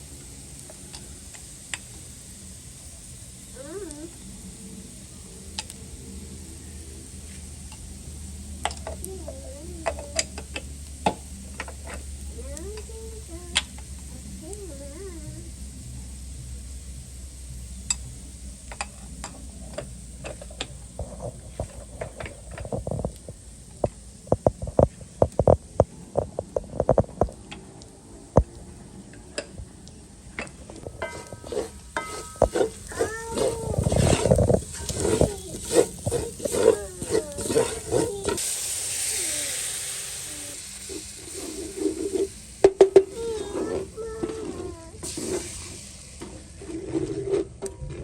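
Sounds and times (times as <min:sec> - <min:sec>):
food frying in hot oil: 0:00.0 - 0:47.1.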